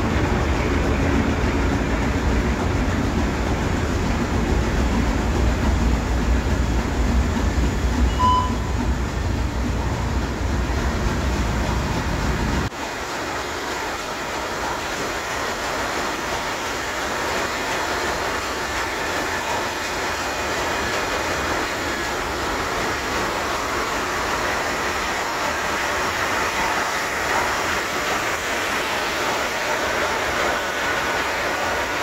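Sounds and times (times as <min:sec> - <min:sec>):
marine diesel engine running: 0:00.0 - 0:32.0.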